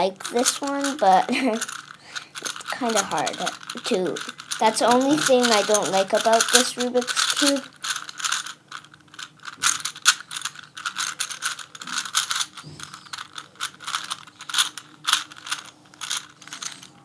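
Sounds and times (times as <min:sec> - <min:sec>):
puzzle cube plastic clicking: 0:00.2 - 0:17.0.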